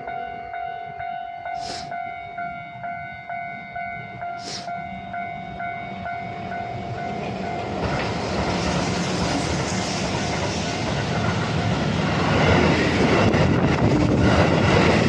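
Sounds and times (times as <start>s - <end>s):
passing train rumble: 0.0s - 15.0s.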